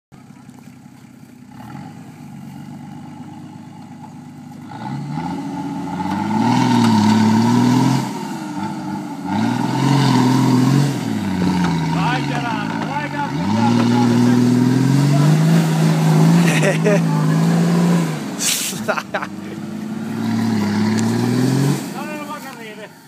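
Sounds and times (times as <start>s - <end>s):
spinning tyres hissing in dirt: 0.2s - 23.0s
truck engine revving: 1.4s - 23.0s.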